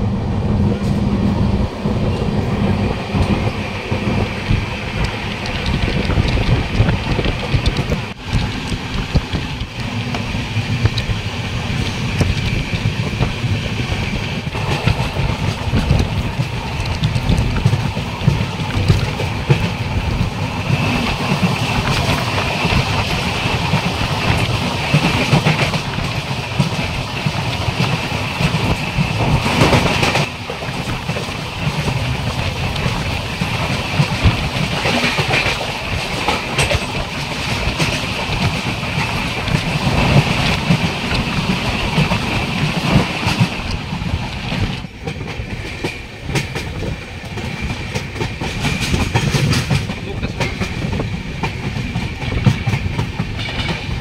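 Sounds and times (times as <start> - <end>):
train wheels clattering on track: 0.0 - 54.0.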